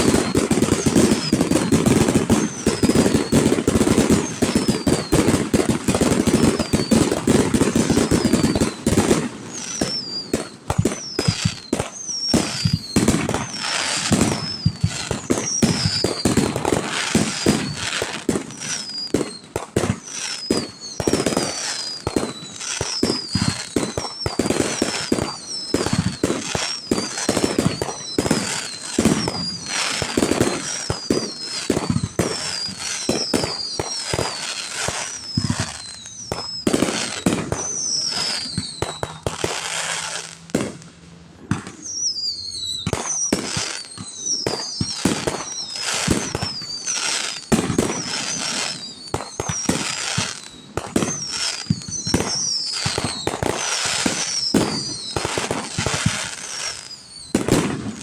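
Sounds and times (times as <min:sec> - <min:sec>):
short falling whistles: 0:00.0 - 0:40.2, 0:41.6 - 0:58.0
firework bangs and crackles: 0:00.0 - 0:58.0.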